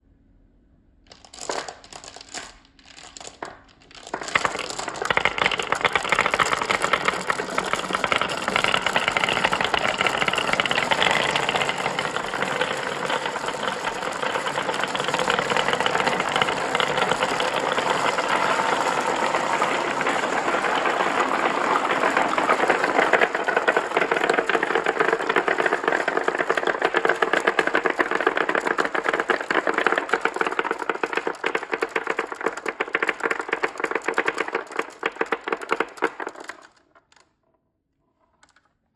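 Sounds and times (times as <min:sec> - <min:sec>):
marbles rattling down a track: 0:01.1 - 0:37.2.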